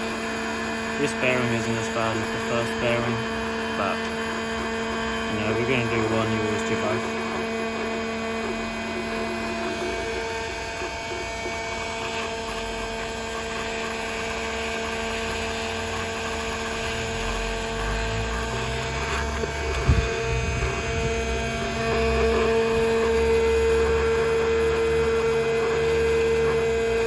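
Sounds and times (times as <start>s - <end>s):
heat gun motor hum: 0.0s - 27.0s.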